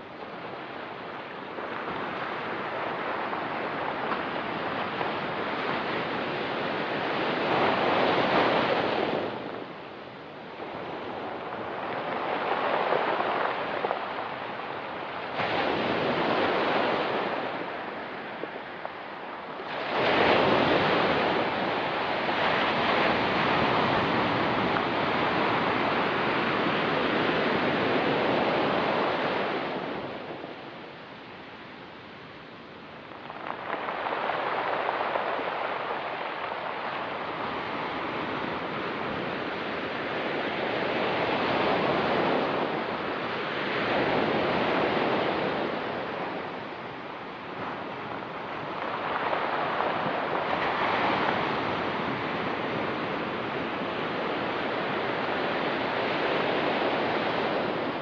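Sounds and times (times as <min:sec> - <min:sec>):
ocean surf on pebble beach: 0:00.0 - 0:58.0.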